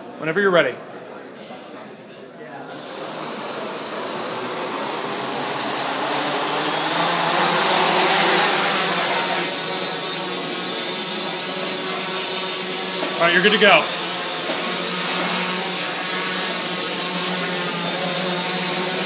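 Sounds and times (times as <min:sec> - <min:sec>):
drone propellers whining: 0:02.6 - 0:19.0
drone hovering hum: 0:02.7 - 0:19.0.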